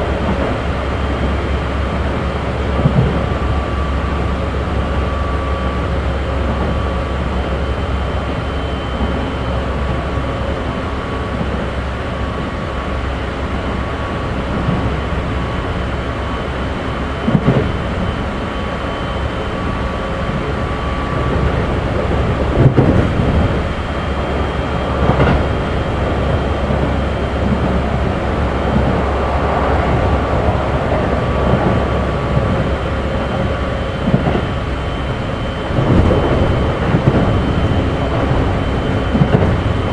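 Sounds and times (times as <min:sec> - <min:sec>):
electric train rumble with tones: 0:00.0 - 0:39.9.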